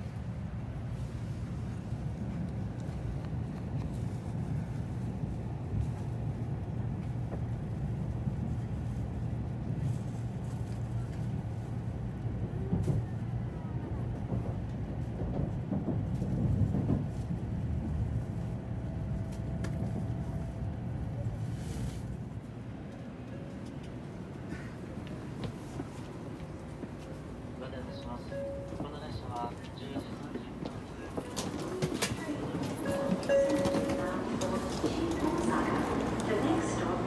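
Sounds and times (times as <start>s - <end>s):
train cabin rumble: 0.0s - 37.0s.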